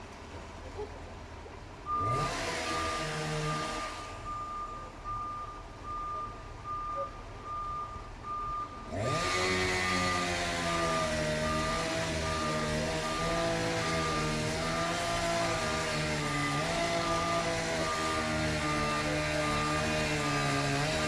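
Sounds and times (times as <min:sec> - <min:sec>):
diesel engine revving: 0:01.9 - 0:21.0
reversing alarm beeping: 0:01.9 - 0:21.0.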